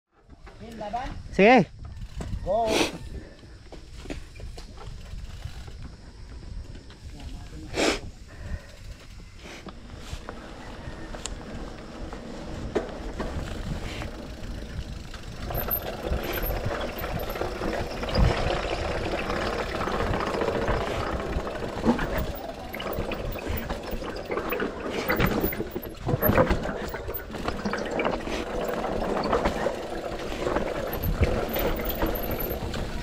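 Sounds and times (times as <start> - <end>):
bike rattling: 0.2 - 2.6, 3.5 - 33.0
tyre and wind rush: 1.1 - 33.0.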